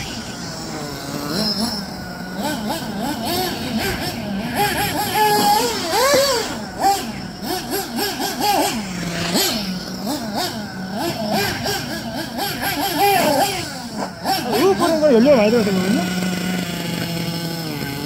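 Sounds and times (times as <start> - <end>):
rc car nitro engine revving: 0.0 - 18.0.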